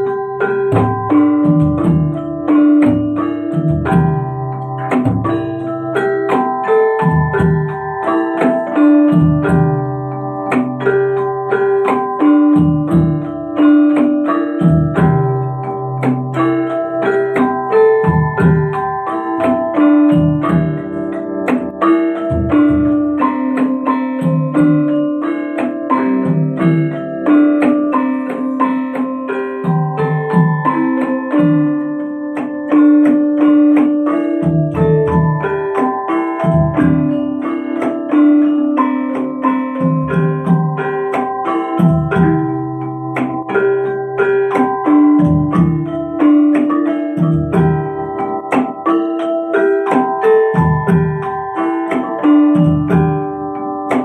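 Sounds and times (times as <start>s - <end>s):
metallophones ringing a melody: 0.0s - 54.0s.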